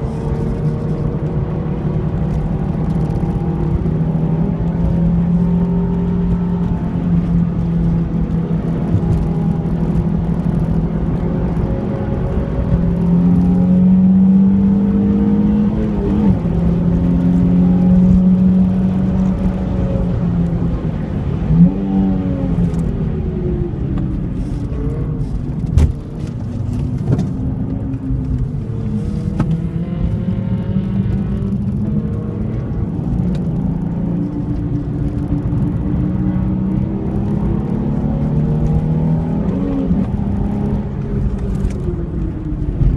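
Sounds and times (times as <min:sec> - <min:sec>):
car engine and exhaust revving: 0:00.0 - 0:42.9.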